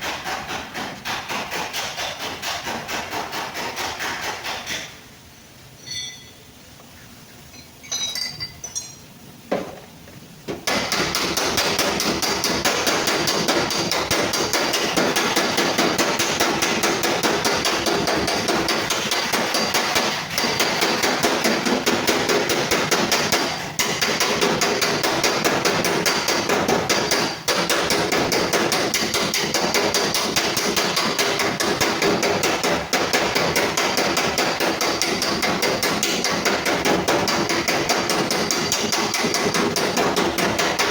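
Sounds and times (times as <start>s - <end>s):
hammer striking sheet metal: 0.0s - 4.9s, 10.6s - 40.9s.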